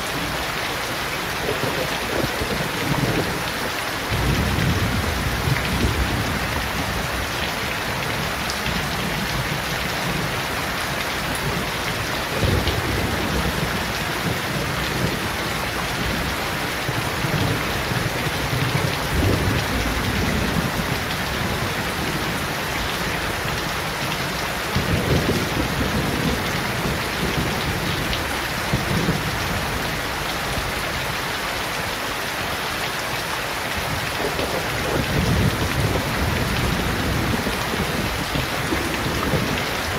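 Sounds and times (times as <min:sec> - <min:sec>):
rain on leaves and pavement: 0:00.0 - 0:39.9.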